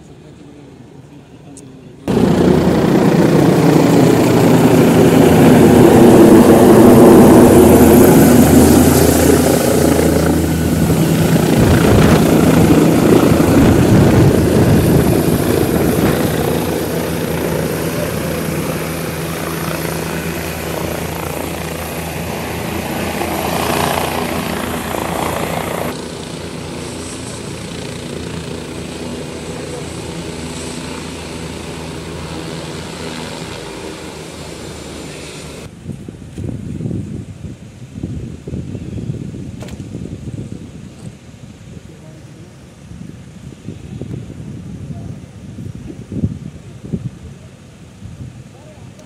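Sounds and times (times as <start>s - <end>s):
helicopter rotor and turbine: 2.0s - 49.0s.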